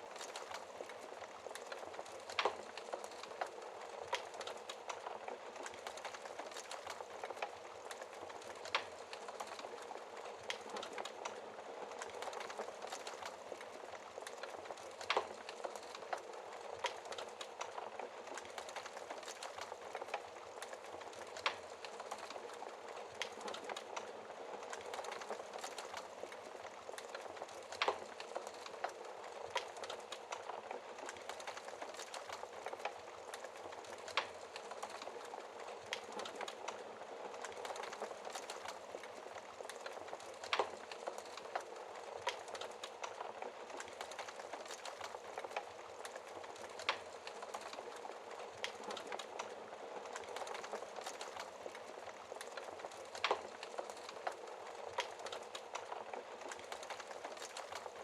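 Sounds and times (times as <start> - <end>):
fireplace crackling: 0.0 - 58.0.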